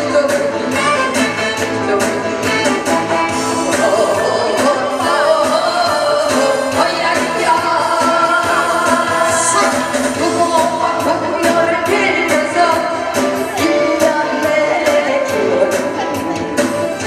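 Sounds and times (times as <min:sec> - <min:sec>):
amplified accompaniment with drum beat: 0:00.0 - 0:17.0
woman singing into a microphone: 0:00.0 - 0:17.0.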